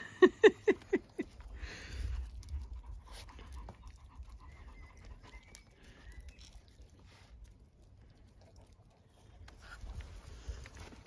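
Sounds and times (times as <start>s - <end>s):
puppies panting and snuffling: 0.1s - 11.0s.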